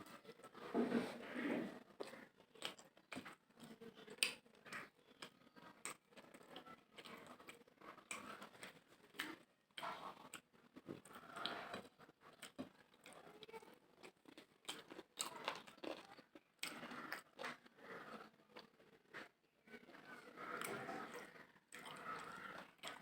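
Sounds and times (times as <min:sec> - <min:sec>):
close-up chewing: 0:00.0 - 0:23.0.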